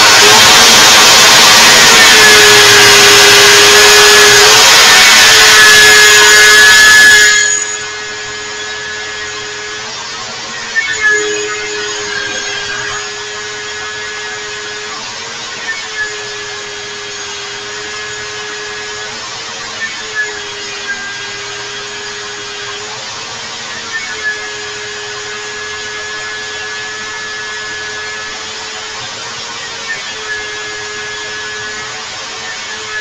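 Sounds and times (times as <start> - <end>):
electric drill motor whine: 0.0 - 33.0.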